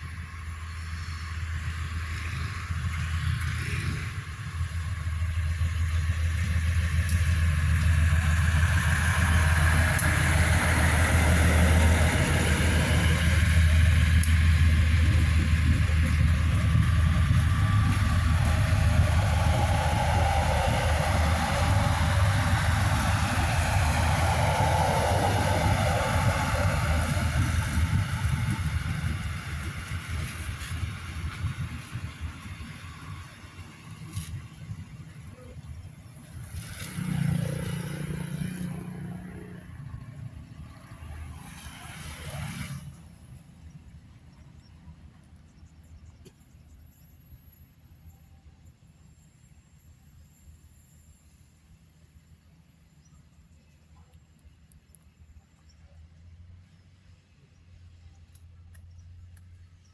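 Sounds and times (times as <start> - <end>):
railcar engine drone: 0.0 - 59.9
train wheel and rail noise: 0.0 - 59.9.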